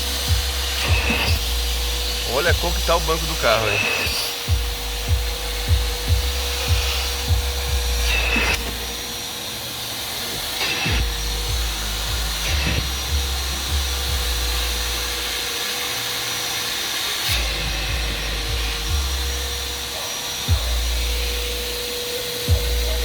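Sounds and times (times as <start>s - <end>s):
wet extractor motor whine: 0.0s - 23.0s.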